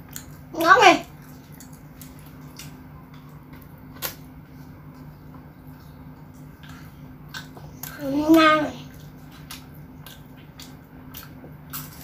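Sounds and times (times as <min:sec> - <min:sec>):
faint chewing: 0:00.0 - 0:12.0
steady low hum: 0:00.0 - 0:12.0.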